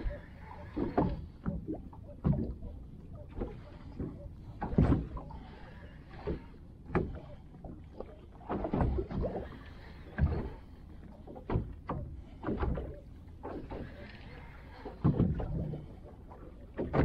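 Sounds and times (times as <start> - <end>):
water lapping against boat hull: 0.0 - 17.0.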